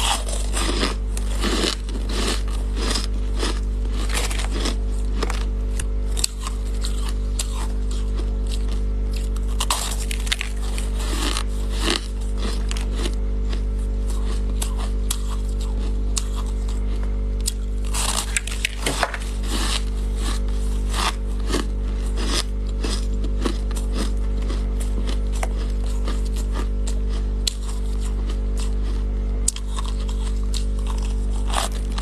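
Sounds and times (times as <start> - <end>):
crunching shaved ice: 0.0 - 32.0.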